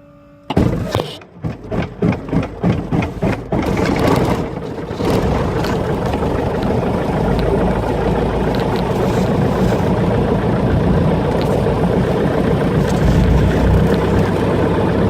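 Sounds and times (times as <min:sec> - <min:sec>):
aircraft piston engine starting: 0:00.5 - 0:15.0.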